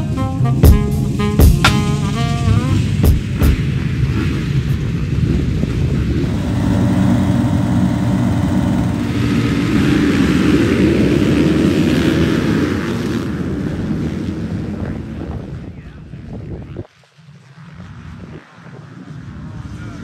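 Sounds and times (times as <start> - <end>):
motocross bike engines: 0.0 - 20.0.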